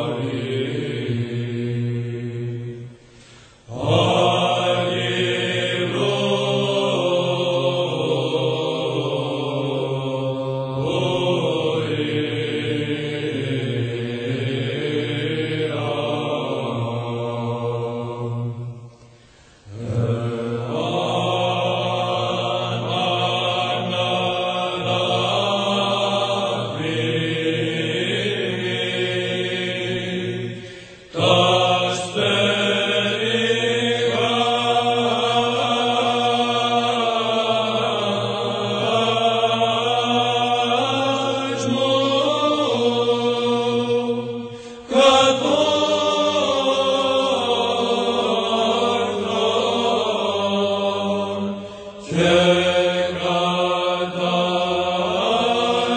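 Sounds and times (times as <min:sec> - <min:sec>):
melodic vocal chant: 0:00.0 - 0:55.9.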